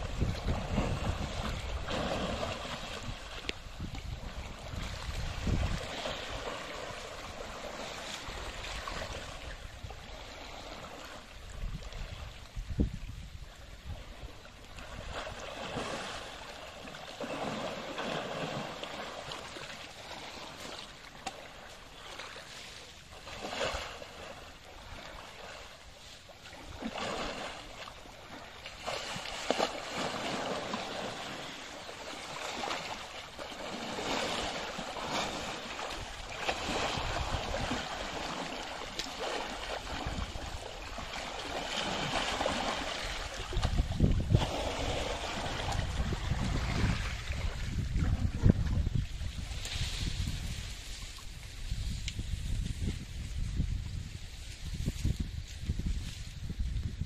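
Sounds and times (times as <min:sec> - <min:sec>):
elephant splashing in muddy water: 0:00.0 - 0:12.3, 0:13.9 - 0:51.4.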